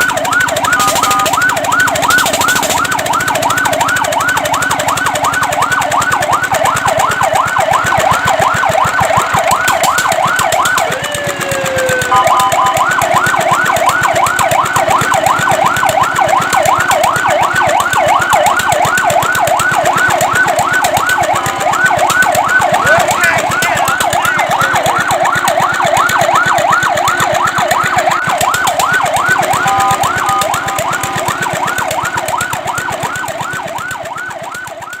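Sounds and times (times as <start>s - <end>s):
fire truck siren yelp: 0.0s - 35.0s.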